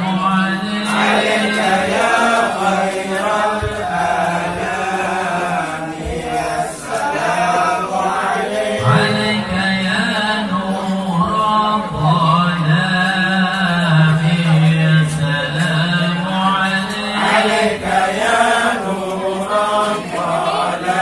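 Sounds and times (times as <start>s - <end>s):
lead singer through microphone: 0.0s - 21.0s
men chanting devotional song: 0.0s - 21.0s.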